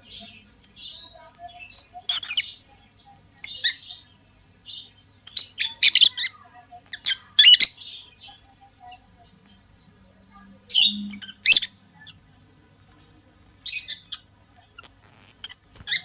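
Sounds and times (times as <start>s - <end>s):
lovebirds chattering: 0.0s - 16.0s.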